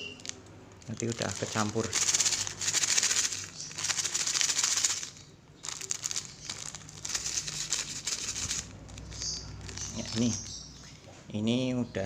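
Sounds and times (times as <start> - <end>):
sugar rattling in plastic bag: 0.0 - 10.6.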